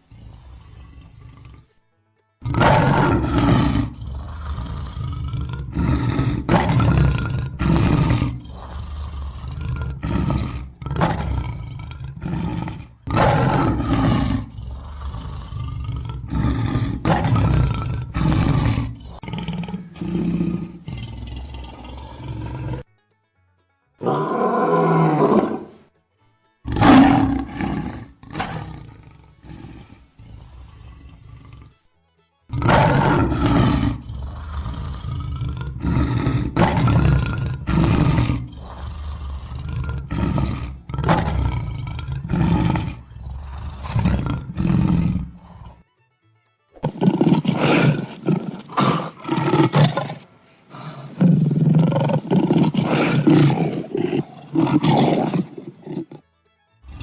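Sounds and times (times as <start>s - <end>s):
lions roaring: 0.0s - 1.7s, 2.4s - 22.9s, 24.0s - 25.9s, 26.7s - 31.8s, 32.5s - 45.8s, 46.8s - 56.2s.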